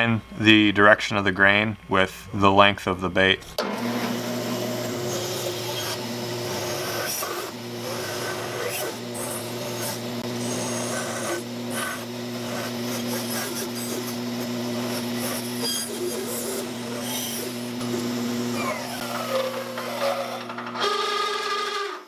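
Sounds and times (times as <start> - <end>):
bandsaw cutting wood: 3.6 - 22.0.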